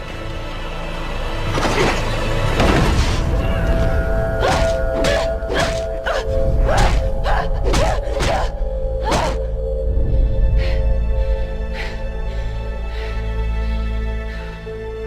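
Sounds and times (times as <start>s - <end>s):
dramatic orchestral score: 0.0s - 15.0s.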